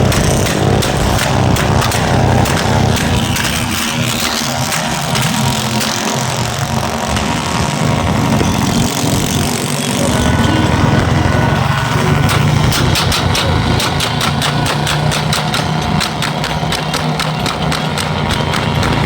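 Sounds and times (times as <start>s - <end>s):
regular sharp beats: 0.0s - 8.4s, 12.1s - 19.0s
vehicle engine humming: 0.0s - 19.0s.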